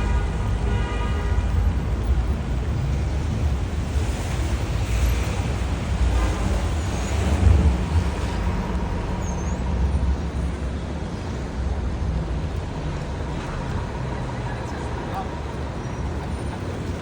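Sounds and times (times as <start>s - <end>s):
passing cars and buses: 0.0s - 17.0s.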